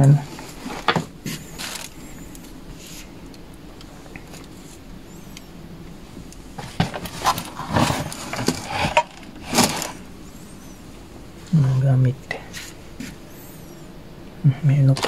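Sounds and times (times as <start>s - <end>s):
clothes and plastic bags rustling: 0.0s - 13.8s.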